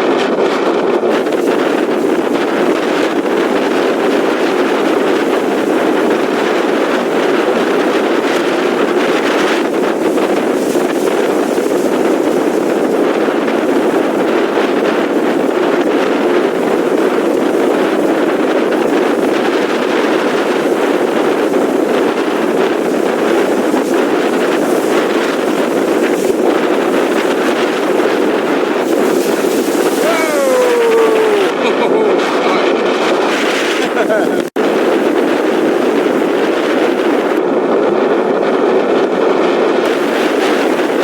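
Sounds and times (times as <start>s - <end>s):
strong wind: 0.0s - 41.0s
wind buffeting the microphone: 0.0s - 41.0s
surf on the beach: 1.0s - 37.4s, 39.8s - 41.0s.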